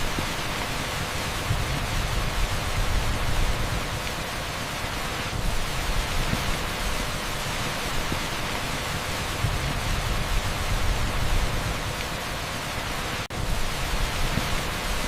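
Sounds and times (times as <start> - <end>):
torrential rain on asphalt: 0.0 - 15.0.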